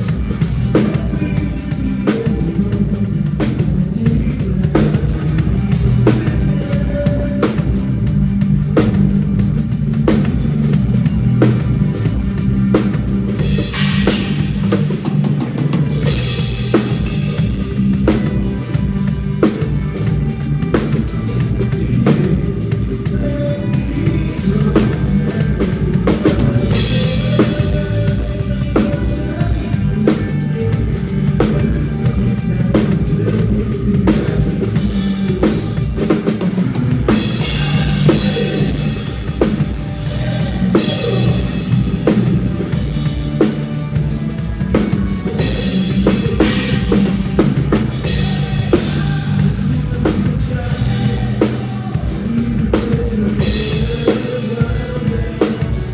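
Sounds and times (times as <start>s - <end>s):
drum kit playing a beat: 0.0s - 55.9s
song playing: 4.7s - 55.9s.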